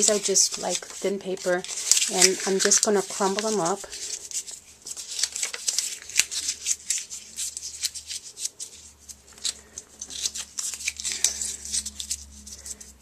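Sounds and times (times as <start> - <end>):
paper crumpling: 0.0 - 13.0.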